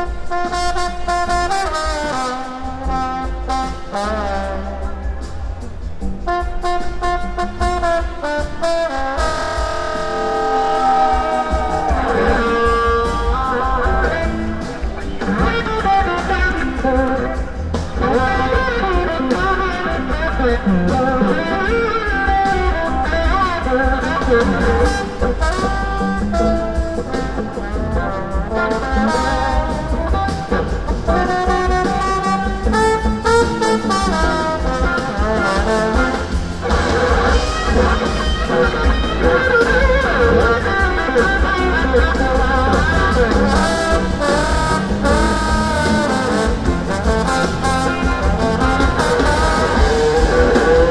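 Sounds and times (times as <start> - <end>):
horn section: 0.0 - 50.9
live band playing soul-rock: 0.0 - 50.9.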